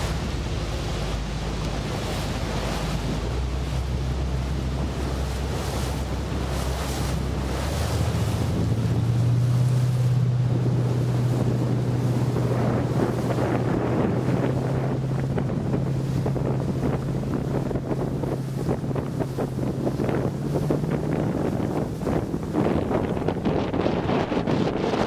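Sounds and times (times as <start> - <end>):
outboard engine running: 0.0 - 25.0
water splashing along hull: 0.0 - 25.0
wind buffeting microphone: 0.0 - 25.0.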